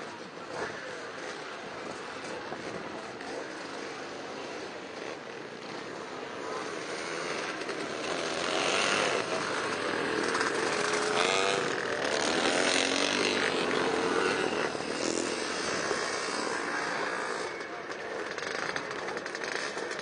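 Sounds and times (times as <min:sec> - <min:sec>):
motocross motorcycle engines revving: 0:00.0 - 0:20.0.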